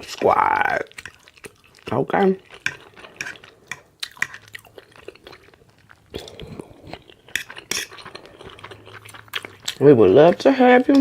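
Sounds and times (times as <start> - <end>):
person chewing open-mouthed: 0.6 - 10.4.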